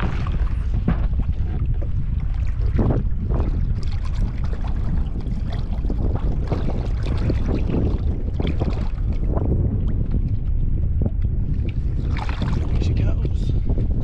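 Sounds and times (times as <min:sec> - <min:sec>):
steady low rumble: 0:00.0 - 0:14.0
water splashing and sloshing: 0:00.0 - 0:14.0.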